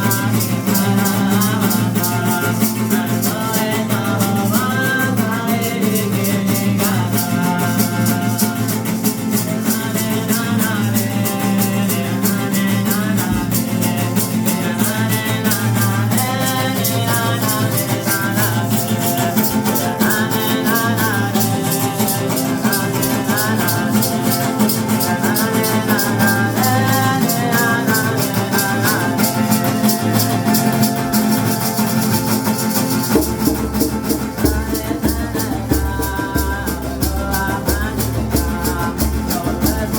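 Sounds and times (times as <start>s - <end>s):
hand rattle shaken: 0.0s - 39.9s
person singing: 0.0s - 39.9s.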